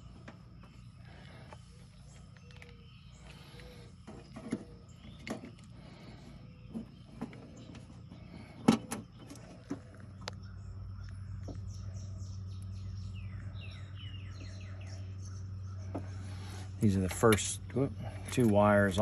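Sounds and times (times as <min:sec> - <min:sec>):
bird chirping: 0:00.0 - 0:19.0
steady low hum: 0:00.0 - 0:19.0.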